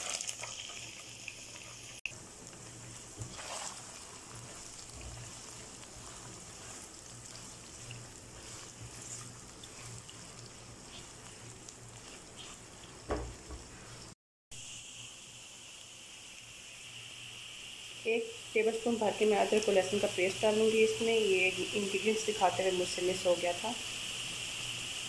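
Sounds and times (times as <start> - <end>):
spatula stirring with crackling: 0.0 - 14.2, 18.6 - 24.8
onions sizzling in hot oil: 0.0 - 25.0.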